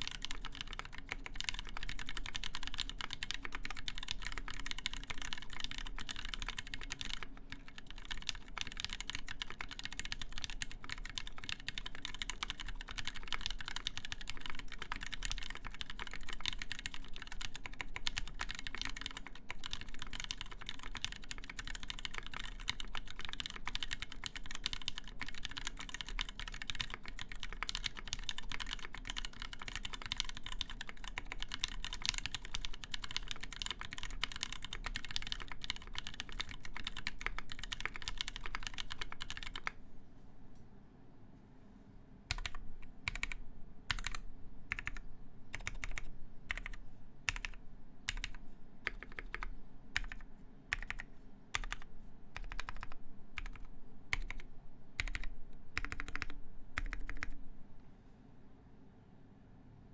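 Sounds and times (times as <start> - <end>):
mechanical keyboard typing: 0.0 - 39.8, 42.3 - 57.4.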